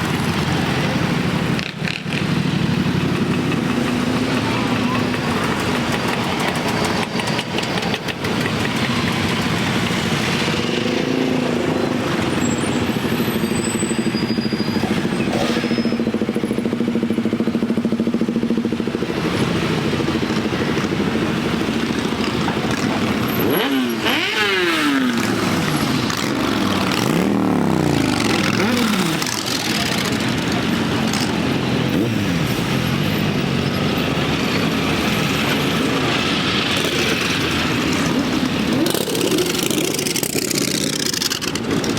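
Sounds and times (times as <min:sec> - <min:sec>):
motorcycle engine revving: 0:00.0 - 0:41.9
motorcycles riding slowly past: 0:00.0 - 0:41.9.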